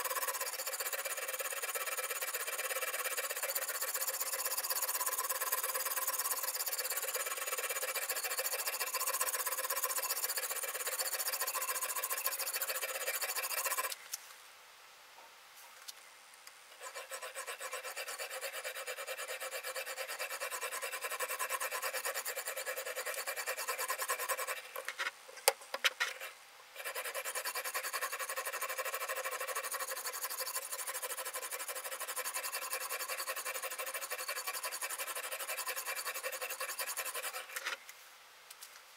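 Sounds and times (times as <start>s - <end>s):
stone scraping knife edge: 0.0s - 14.0s, 16.8s - 25.0s, 26.0s - 37.8s.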